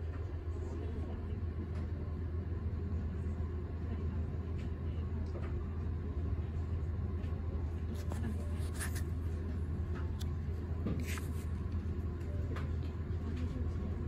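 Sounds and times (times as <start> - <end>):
air conditioning hum: 0.0 - 14.0.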